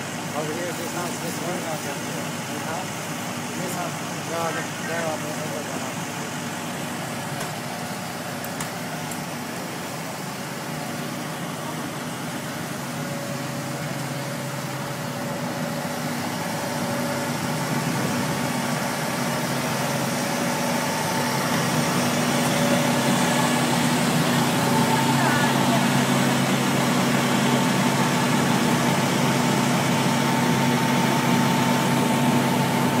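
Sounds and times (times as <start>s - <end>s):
fire engine idling: 0.0s - 33.0s.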